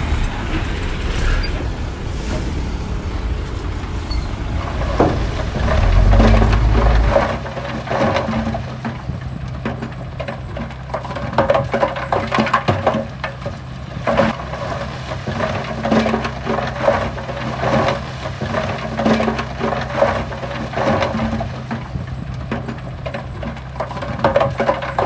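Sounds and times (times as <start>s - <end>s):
diesel engine running: 0.0s - 25.0s
rock and gravel crunching: 4.4s - 25.0s.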